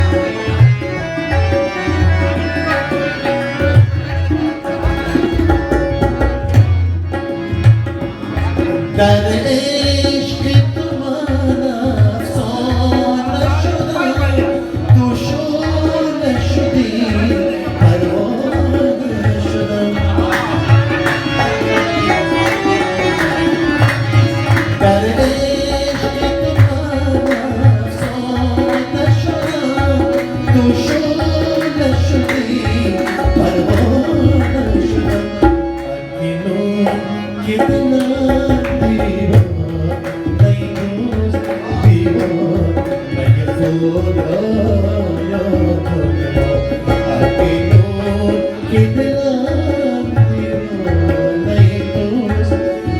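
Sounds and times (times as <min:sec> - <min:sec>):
melodic instrumental line: 0:00.0 - 0:52.9
tabla drums beat: 0:00.0 - 0:52.9.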